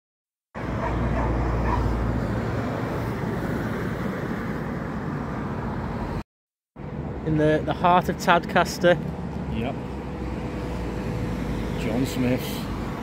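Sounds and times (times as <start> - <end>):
vehicle road and engine rumble: 0.6 - 13.0.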